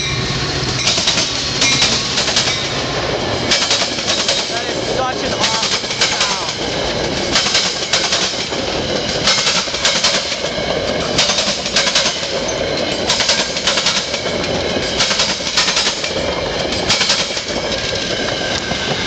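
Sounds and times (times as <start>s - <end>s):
train wheels rumbling on rail: 0.0s - 19.0s
wheels clacking over rail joints: 0.6s - 19.0s.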